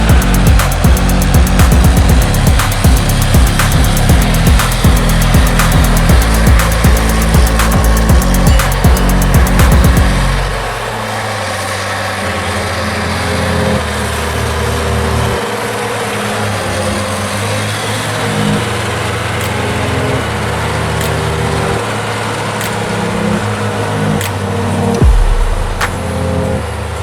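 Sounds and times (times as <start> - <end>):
music: 0.0 - 10.9, 12.4 - 27.0
heavy machine engine running: 0.0 - 27.0.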